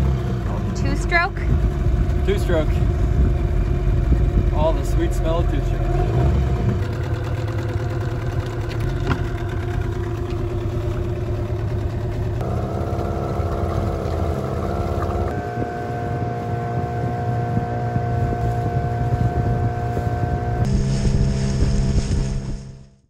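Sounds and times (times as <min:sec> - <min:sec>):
outboard motor running: 0:00.0 - 0:23.0
water rushing past hull: 0:00.9 - 0:22.8.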